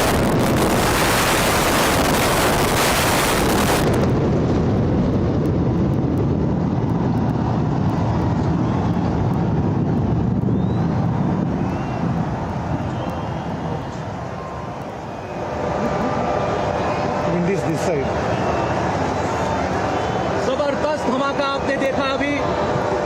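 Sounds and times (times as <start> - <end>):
building collapse rumble: 0.0 - 21.4.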